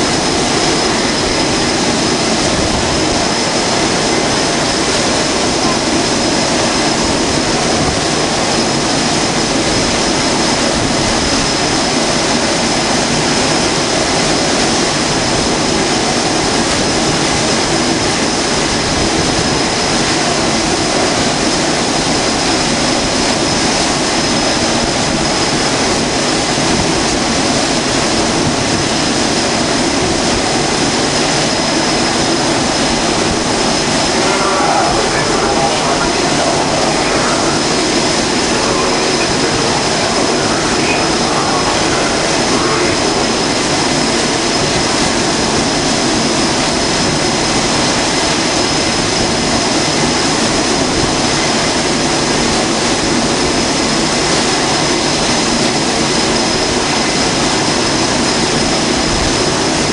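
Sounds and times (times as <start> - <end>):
high steady whine: 0.0 - 59.9
jet engines running: 0.0 - 59.9.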